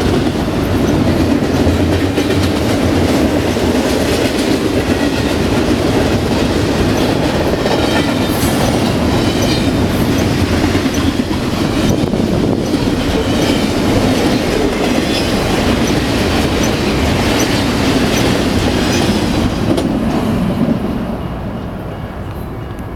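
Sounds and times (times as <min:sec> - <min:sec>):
freight train wheels rumbling: 0:00.0 - 0:22.9
clicking over rail joints: 0:00.2 - 0:20.2.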